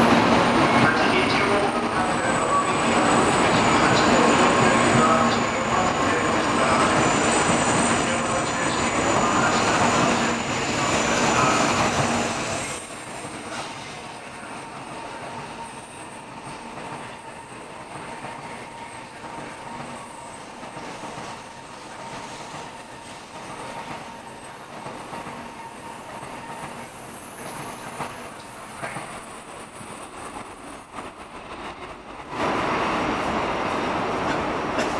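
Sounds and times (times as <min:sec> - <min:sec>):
train rail and wheel noise: 0:00.0 - 0:34.9
train rumble with faint whine: 0:00.0 - 0:34.9.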